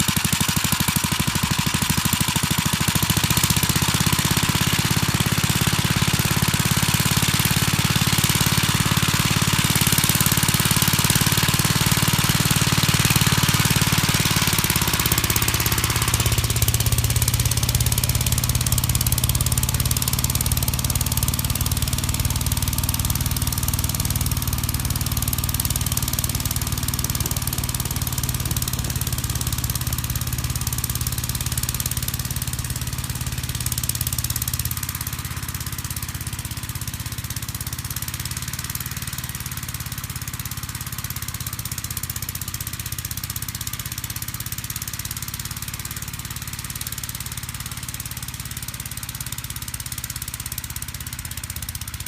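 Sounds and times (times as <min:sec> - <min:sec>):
snow blower hiss: 0:00.0 - 0:48.5
single-cylinder engine running: 0:00.0 - 0:52.0.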